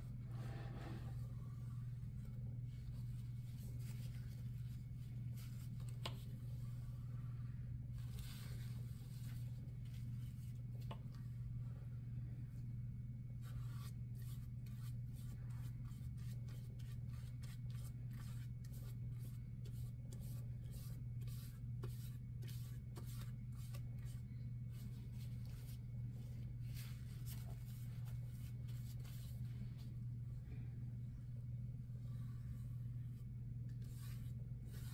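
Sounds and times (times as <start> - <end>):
steady low hum: 0.0 - 34.9
paintbrush stroking thick paint: 0.3 - 10.6, 13.4 - 30.0, 31.8 - 34.9.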